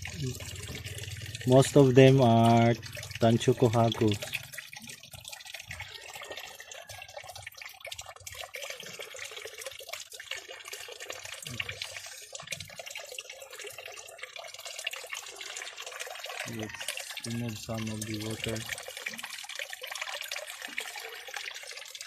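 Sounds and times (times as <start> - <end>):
water drips: 0.0 - 22.0
water trickling and splashing: 0.0 - 22.0.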